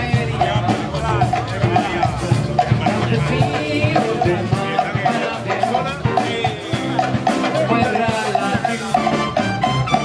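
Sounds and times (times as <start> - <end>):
live band with brass playing: 0.0 - 10.0
voices: 0.0 - 10.0.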